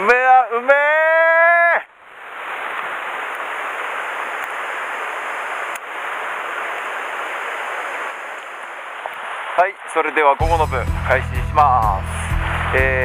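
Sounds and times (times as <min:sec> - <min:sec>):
stream running over stones: 0:01.9 - 0:13.0.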